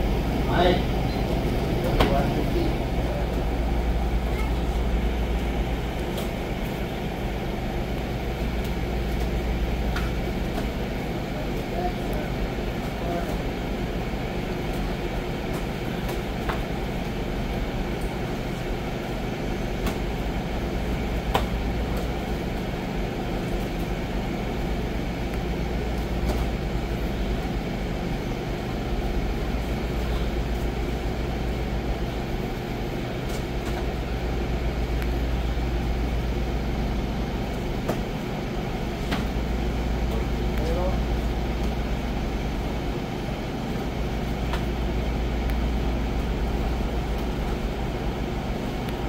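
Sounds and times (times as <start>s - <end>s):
fans humming: 0.0s - 49.0s.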